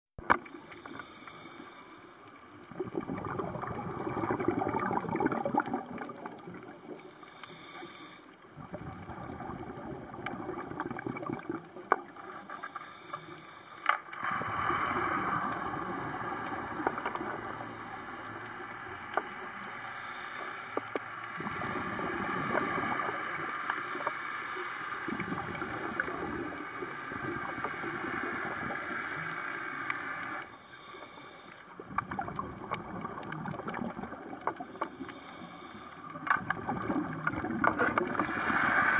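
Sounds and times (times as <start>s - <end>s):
exhaled bubbles gurgling underwater: 2.5s - 12.7s, 14.1s - 38.9s.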